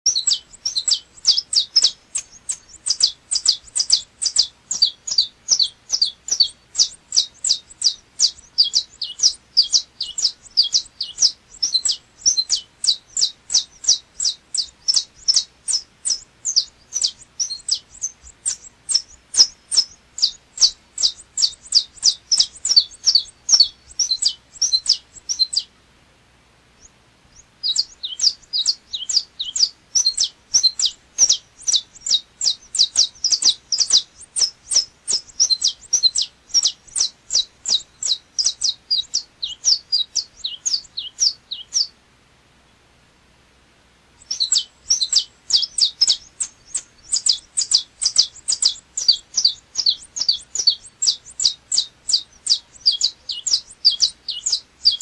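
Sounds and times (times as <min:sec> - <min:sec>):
finch singing: 0:00.0 - 0:25.8, 0:26.8 - 0:42.0, 0:44.2 - 0:55.0.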